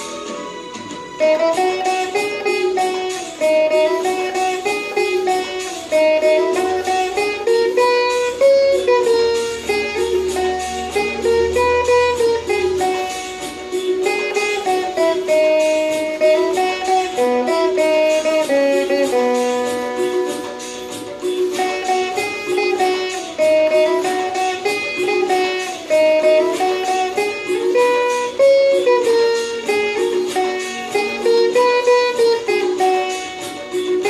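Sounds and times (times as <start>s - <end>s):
karaoke backing track with beat: 0.0s - 34.0s
plucked veena melody: 0.0s - 34.0s.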